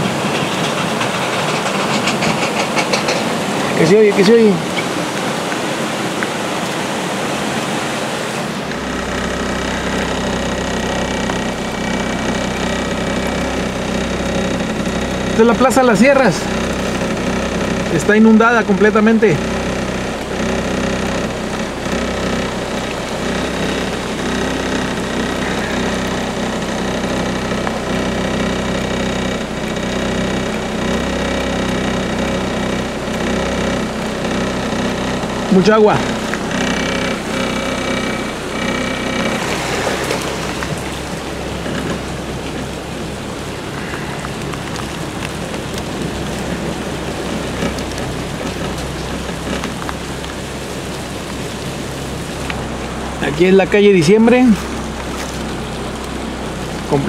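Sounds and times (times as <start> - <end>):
heavy rain: 0.0 - 57.0
low engine hum: 0.0 - 57.0
rushing floodwater: 0.0 - 57.0
vehicle splashing through water: 0.0 - 57.0.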